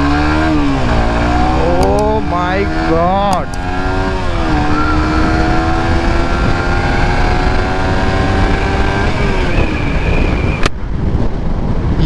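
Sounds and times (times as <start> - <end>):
motorcycle engine accelerating: 0.0 - 12.0
wind rush on microphone: 0.2 - 12.0.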